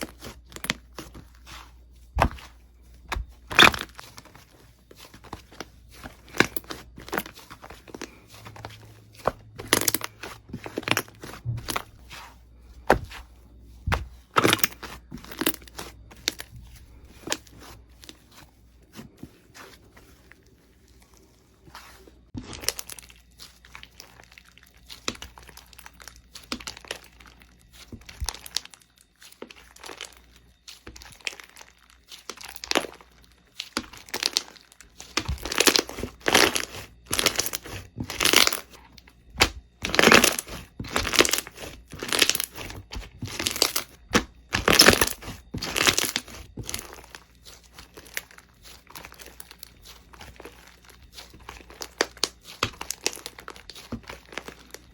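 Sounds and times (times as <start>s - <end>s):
slime squishing by hand: 0.0s - 54.9s.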